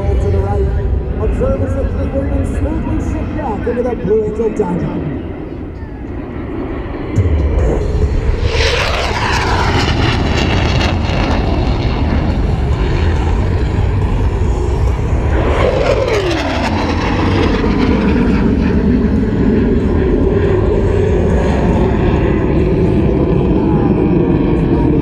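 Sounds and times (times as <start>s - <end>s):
jet roar passing: 0.0s - 25.0s
low rumble: 0.0s - 25.0s.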